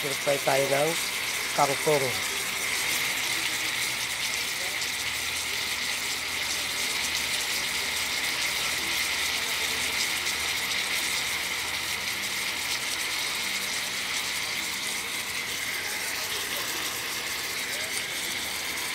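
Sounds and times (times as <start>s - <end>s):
meat simmering and sizzling in a pan: 0.0s - 18.9s.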